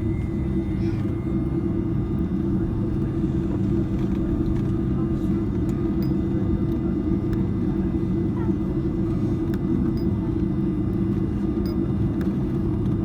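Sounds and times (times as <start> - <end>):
airplane cabin low rumble: 0.0 - 13.0.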